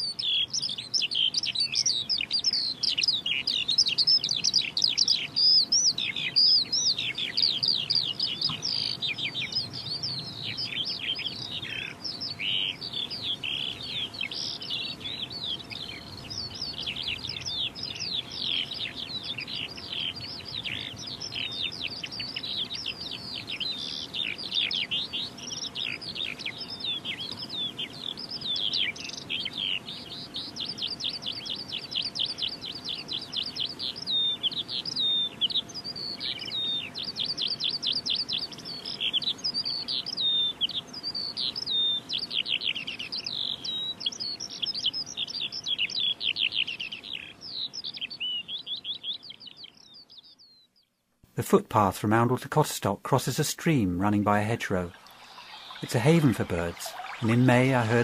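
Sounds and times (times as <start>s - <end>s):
skylarks singing: 0.0s - 58.0s.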